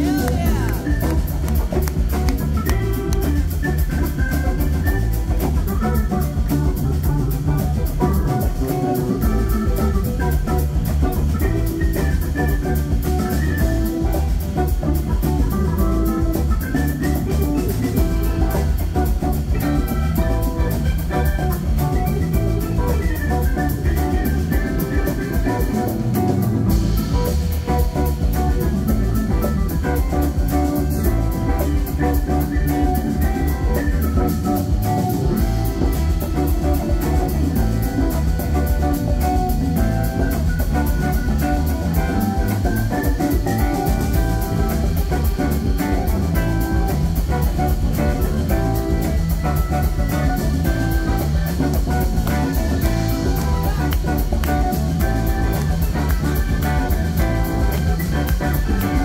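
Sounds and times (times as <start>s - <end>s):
drum kit: 0.0s - 59.0s
fast cymbal beat: 0.0s - 59.0s
guitar: 0.0s - 59.0s
keyboard: 0.0s - 59.0s.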